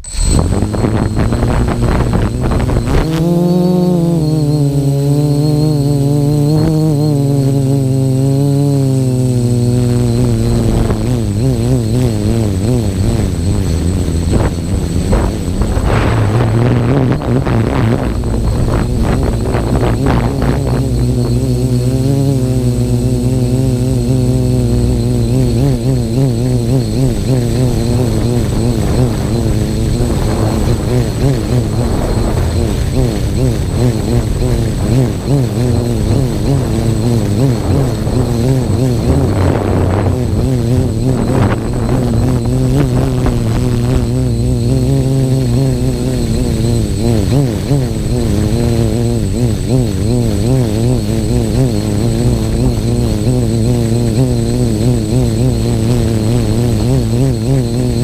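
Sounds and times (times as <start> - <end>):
quadcopter propellers buzzing: 0.0 - 58.0.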